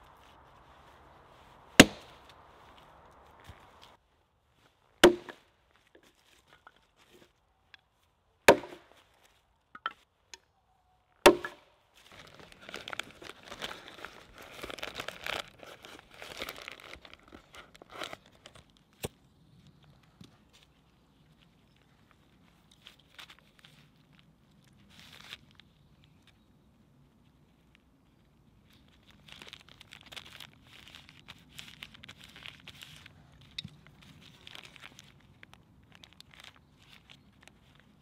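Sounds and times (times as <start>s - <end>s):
crackling and rustling: 0.0s - 38.0s.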